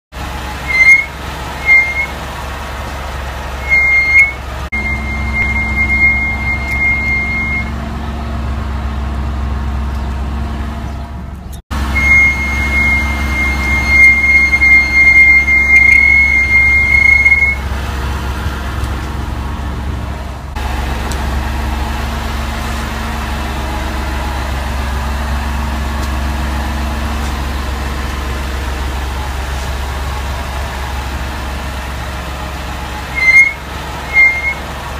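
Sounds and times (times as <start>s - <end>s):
car low rumble: 0.1s - 34.9s
brakes squealing: 0.2s - 34.9s.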